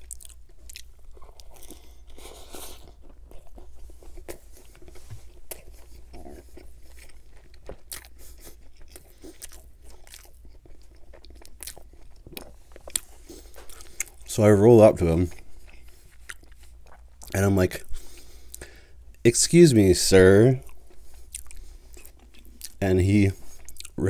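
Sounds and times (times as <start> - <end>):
close chewing: 0.0 - 14.3, 15.0 - 18.8, 20.6 - 22.8, 23.4 - 24.0.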